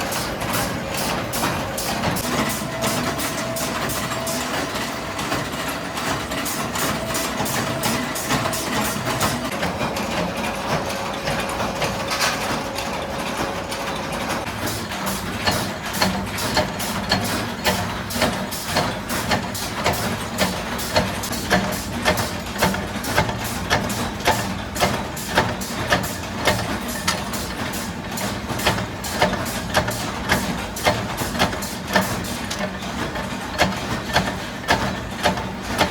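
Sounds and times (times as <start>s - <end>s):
factory machinery running: 0.0s - 35.9s.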